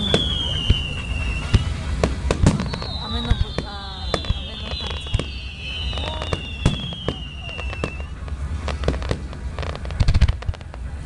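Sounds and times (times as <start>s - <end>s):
descending firework whistle: 0.0s - 10.6s
fireworks bangs: 0.0s - 11.0s
fireworks crackling pops: 0.0s - 11.0s.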